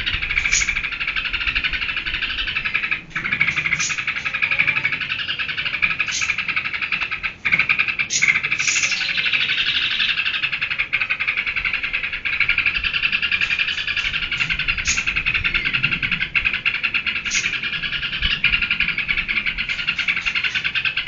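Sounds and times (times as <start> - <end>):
bird chattering song: 0.0 - 21.0.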